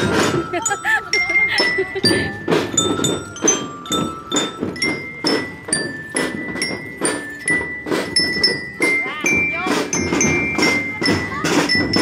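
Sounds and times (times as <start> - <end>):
marching drums beating: 0.0 - 12.0
ringing glockenspiel melody: 0.0 - 12.0.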